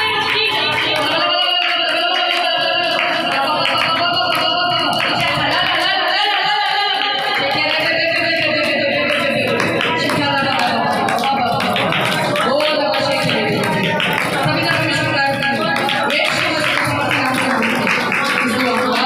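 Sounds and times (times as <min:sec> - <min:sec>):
music with steady beat: 0:00.0 - 0:19.0
worship singing: 0:00.0 - 0:19.0.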